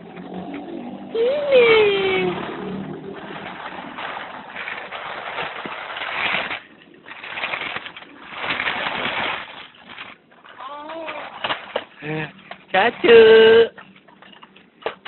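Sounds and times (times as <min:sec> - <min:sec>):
plastic wheels rattling over concrete: 0:00.0 - 0:15.0.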